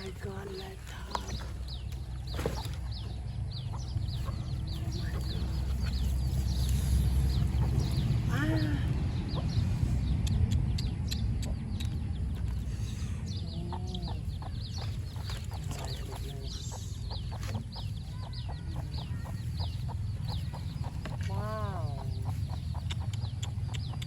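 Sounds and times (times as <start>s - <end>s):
bird clucking calls: 0.0s - 24.0s
birds chirping: 0.0s - 24.0s
steady low rumble: 0.0s - 24.0s.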